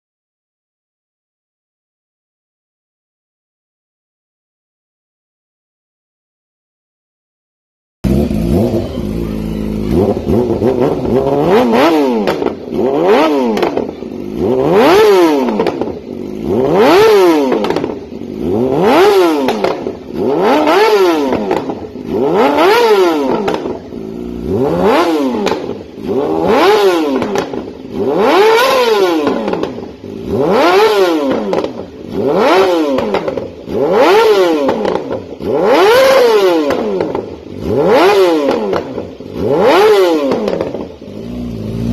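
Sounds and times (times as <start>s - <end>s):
motorcycle engine revving: 8.0s - 41.9s.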